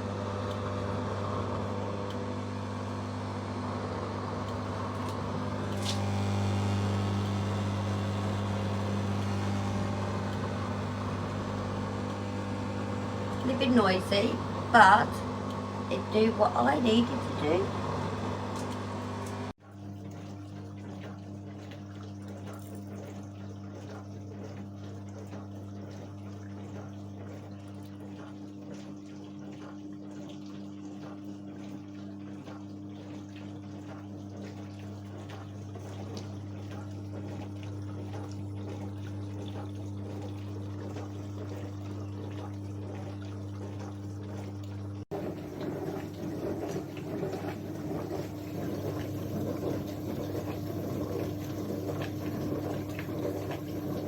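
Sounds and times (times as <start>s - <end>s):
dishwasher pump hum: 0.0s - 54.0s
water splashing inside dishwasher: 0.0s - 54.0s.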